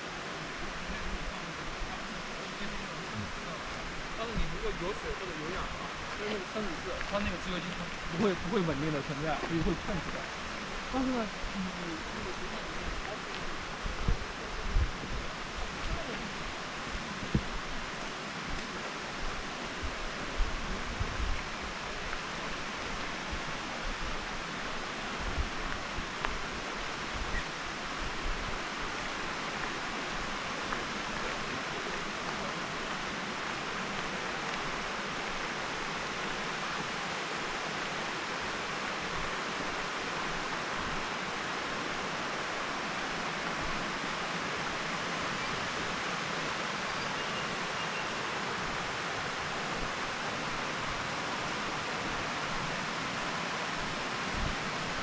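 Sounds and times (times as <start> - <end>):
creek rushing over rock ledges: 0.0 - 55.0.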